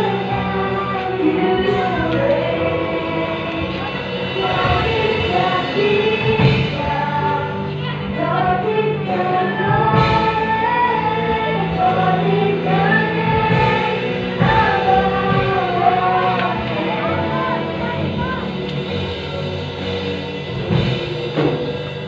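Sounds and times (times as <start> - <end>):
choir singing with instruments: 0.0 - 22.0.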